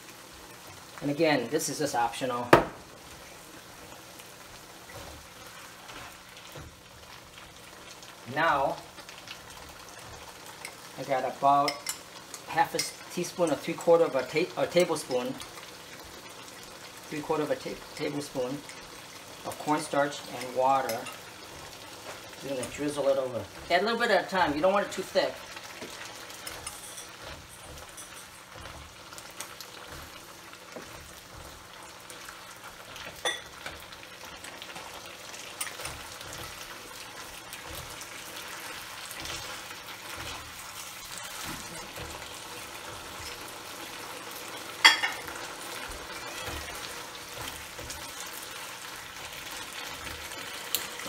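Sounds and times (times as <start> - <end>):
food sizzling in a wok: 0.0 - 51.0.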